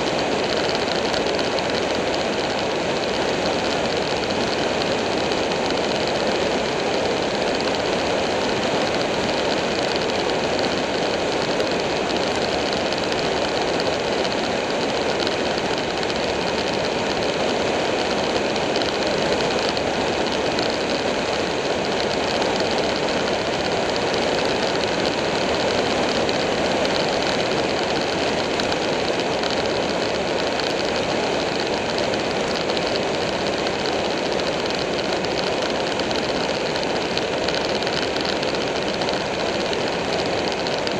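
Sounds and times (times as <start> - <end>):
motorcycle engine running steadily: 0.0 - 40.9
road noise: 0.0 - 40.9.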